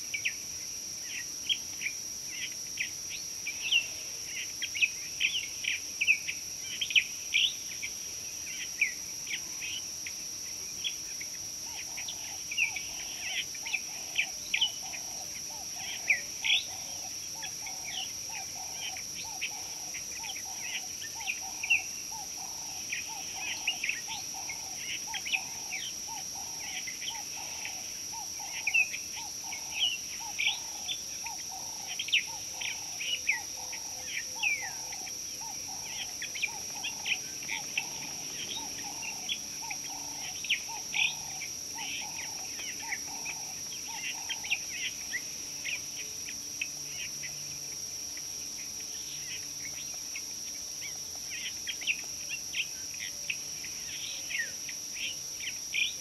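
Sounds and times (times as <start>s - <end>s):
steady high-pitched whine: 0.0s - 56.0s.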